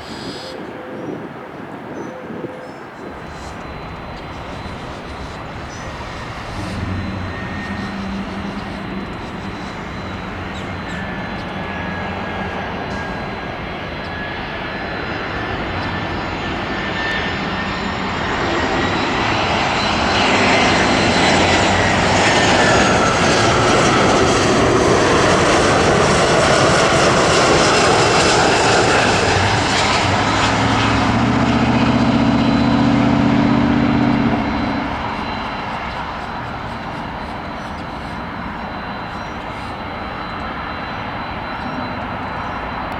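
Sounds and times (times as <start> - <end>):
jet engines passing with whine: 0.0 - 42.9
low droning hum: 2.8 - 42.9.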